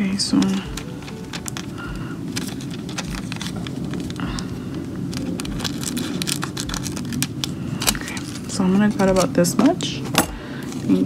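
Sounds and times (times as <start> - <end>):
foil crinkling: 0.0 - 11.0
scissors snipping foil: 0.4 - 11.0.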